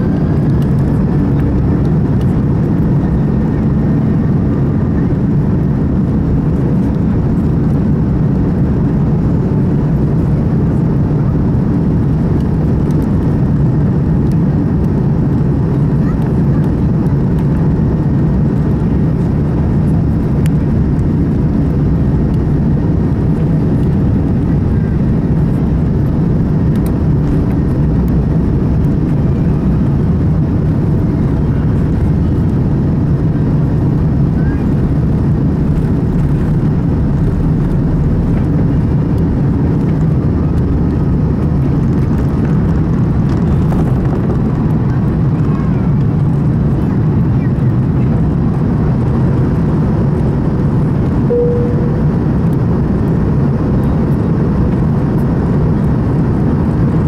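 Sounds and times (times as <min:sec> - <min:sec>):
jet engines roaring at takeoff: 0:00.0 - 0:57.0
runway rumble: 0:00.0 - 0:57.0.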